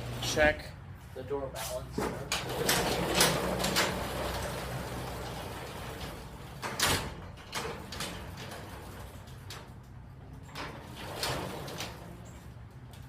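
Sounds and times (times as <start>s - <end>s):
garage door roller rumble: 0.0s - 0.4s, 2.0s - 13.0s
garage door clanks: 2.0s - 12.6s.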